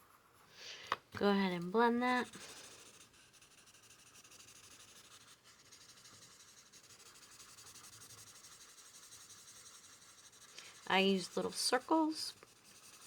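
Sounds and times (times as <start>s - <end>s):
blending tool rubbing on paper: 1.3s - 13.0s.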